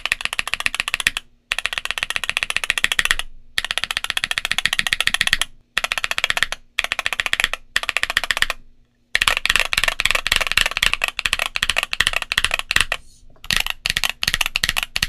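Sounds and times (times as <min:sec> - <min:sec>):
mechanical keyboard typing: 0:00.0 - 0:08.6, 0:09.2 - 0:15.0.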